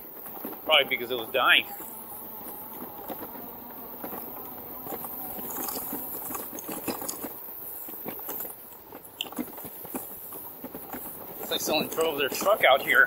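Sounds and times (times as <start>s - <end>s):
bike rattling over bumps: 0.0s - 13.0s
bike tyres on dirt path: 0.0s - 13.0s.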